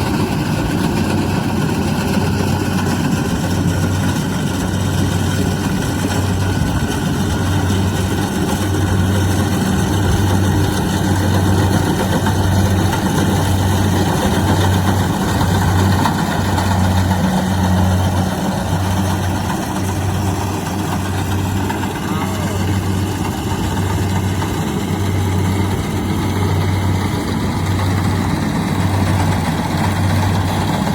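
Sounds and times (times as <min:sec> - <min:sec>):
combine harvester engine humming: 0:00.0 - 0:30.9.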